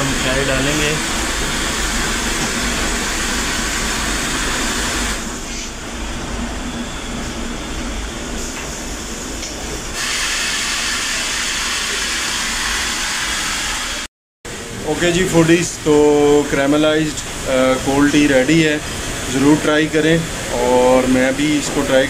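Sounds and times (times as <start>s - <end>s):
ventilation rushing hiss: 0.0s - 22.0s.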